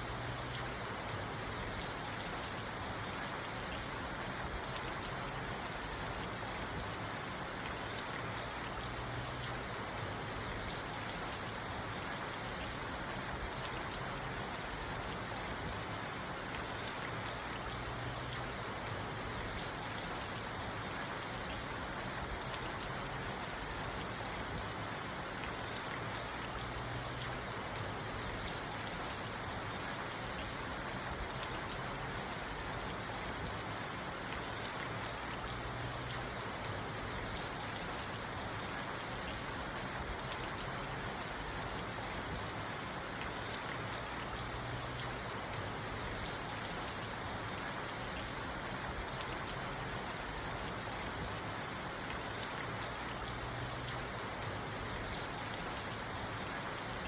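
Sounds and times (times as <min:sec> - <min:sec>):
rain falling on a car: 0:00.0 - 0:57.0.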